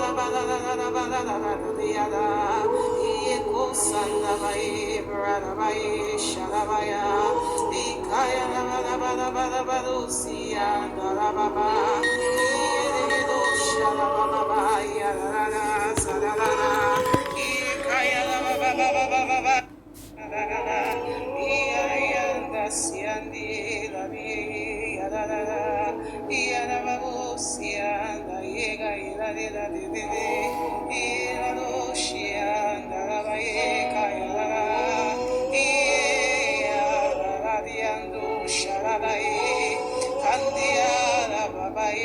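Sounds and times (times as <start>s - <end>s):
person singing with vibrato: 0.0s - 42.0s
sustained background music: 0.0s - 42.0s.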